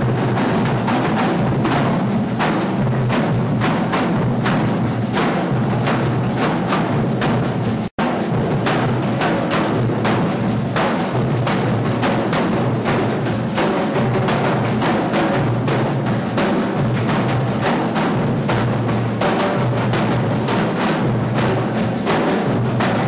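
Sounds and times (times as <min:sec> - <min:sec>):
percussion ensemble drumming: 0:00.0 - 0:23.0.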